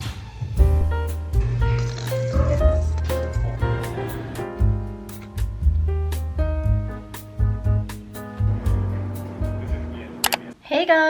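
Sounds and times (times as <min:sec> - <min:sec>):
light bouncy background music: 0:00.6 - 0:10.3.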